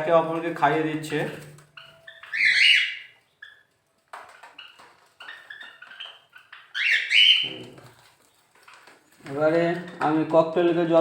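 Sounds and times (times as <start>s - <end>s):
birds chirping: 0.0s - 10.4s.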